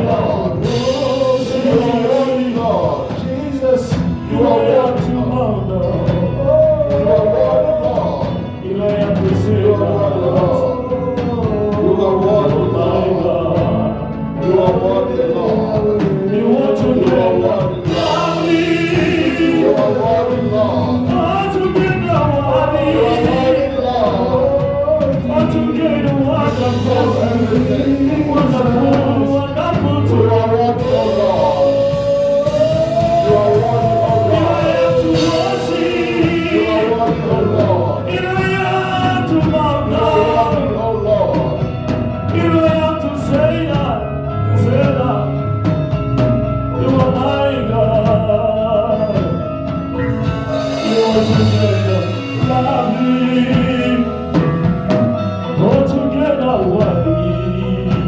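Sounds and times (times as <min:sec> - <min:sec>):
group of singers: 0:00.0 - 0:58.0
low instrumental notes: 0:00.0 - 0:58.0.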